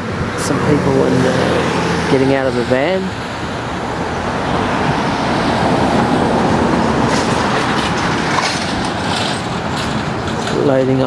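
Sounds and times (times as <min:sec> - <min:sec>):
road traffic rumble and hiss: 0:00.0 - 0:11.0.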